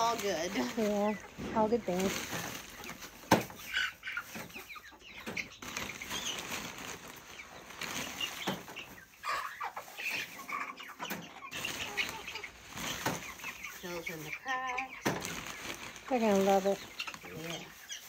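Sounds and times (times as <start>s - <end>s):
chickens clucking: 0.0s - 18.0s
wood shavings rustling: 0.0s - 18.0s.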